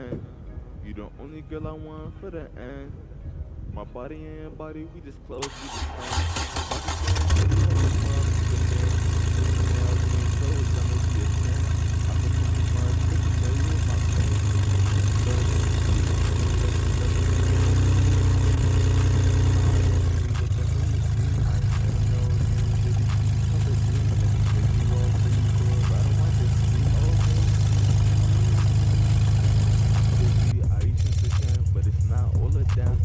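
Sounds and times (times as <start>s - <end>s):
car engine idling: 5.4s - 33.0s.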